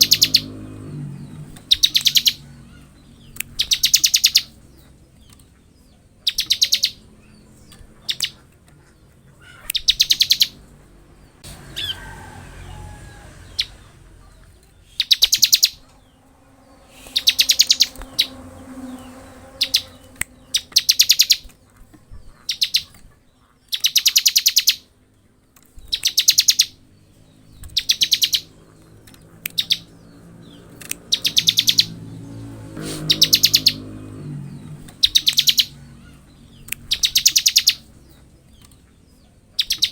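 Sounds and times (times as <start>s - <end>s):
bird rattling song: 0.0s - 10.8s, 14.4s - 24.9s, 25.6s - 39.9s.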